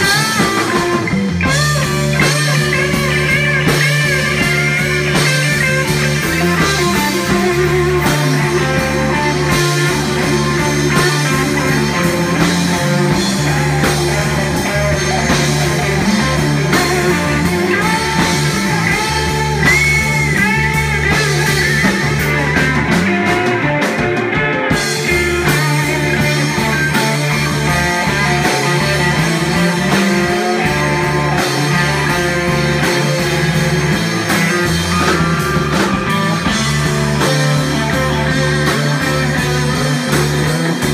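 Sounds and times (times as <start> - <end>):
bending guitar lines: 0.0 - 40.9
rock band playing: 0.0 - 40.9.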